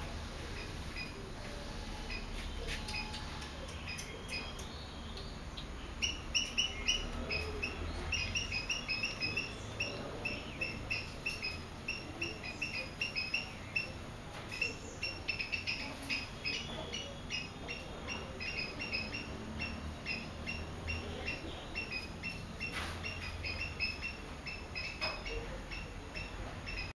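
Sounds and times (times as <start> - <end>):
swallow chirping: 0.0 - 26.9.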